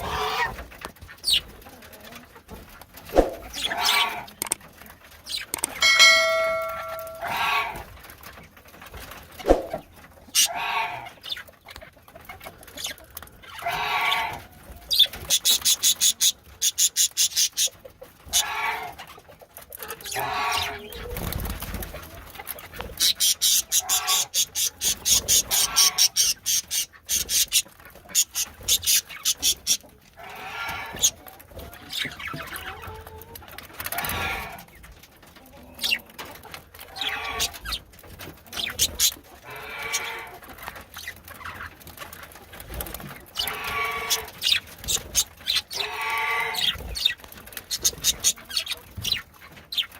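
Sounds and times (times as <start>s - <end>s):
birds calling: 0.0s - 1.6s, 2.5s - 8.4s, 9.0s - 19.4s, 20.0s - 33.2s, 33.8s - 49.9s.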